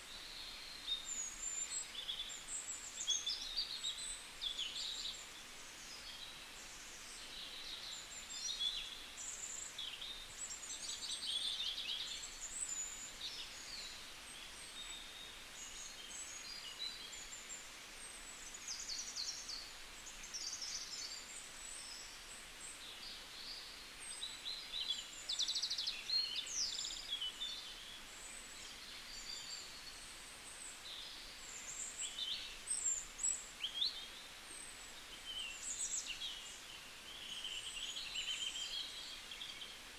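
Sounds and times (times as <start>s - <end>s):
faint steady hiss: 0.0s - 39.9s
small birds chirping: 0.0s - 39.9s.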